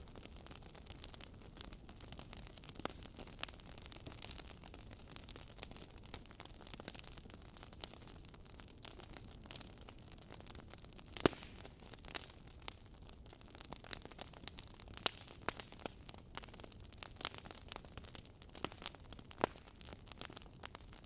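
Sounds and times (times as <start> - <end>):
fire crackles and pops: 0.0 - 21.0.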